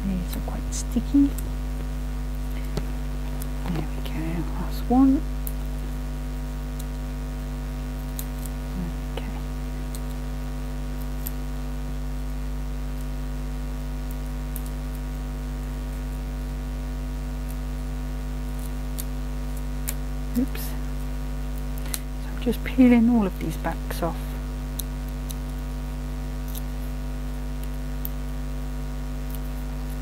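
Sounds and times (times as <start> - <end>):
electrical mains hum: 0.0 - 30.0.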